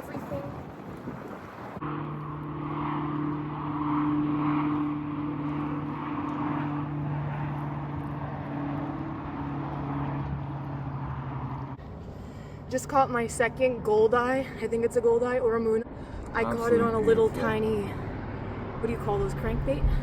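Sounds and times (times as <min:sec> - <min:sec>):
engine drone: 0:00.3 - 0:20.0.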